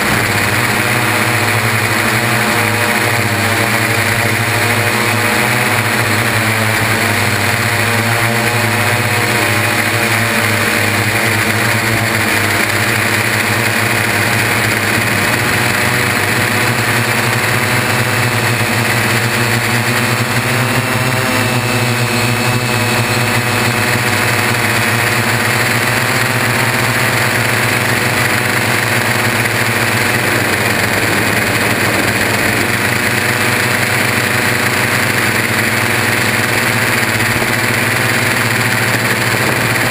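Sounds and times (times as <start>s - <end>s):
drone motors and propellers buzzing: 0.0s - 39.9s.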